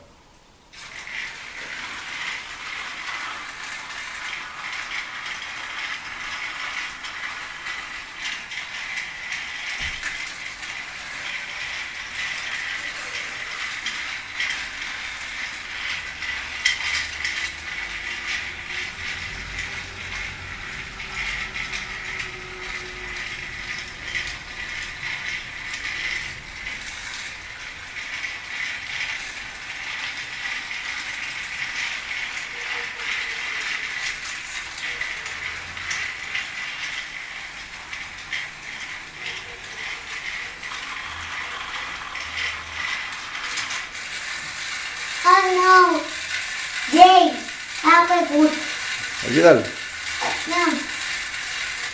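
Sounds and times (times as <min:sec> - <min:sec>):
toy train whirring on track: 0:00.6 - 0:51.9.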